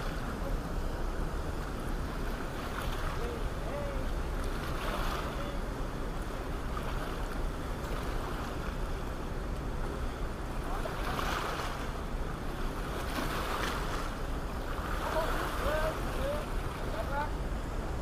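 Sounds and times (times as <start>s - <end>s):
whitewater rushing over rocks: 0.0s - 18.0s.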